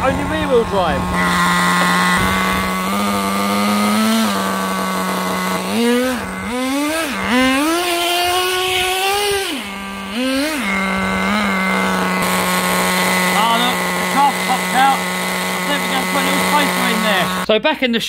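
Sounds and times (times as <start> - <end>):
small engine idling and revving: 0.0 - 17.5.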